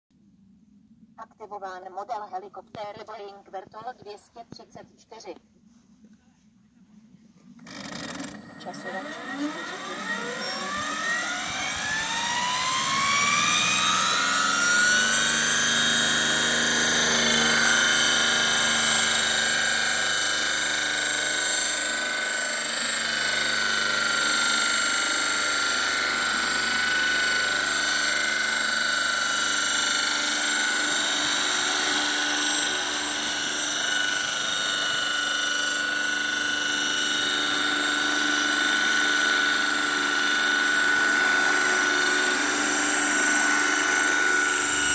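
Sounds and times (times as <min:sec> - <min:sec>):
model helicopter whine: 0:07.0 - 0:44.9.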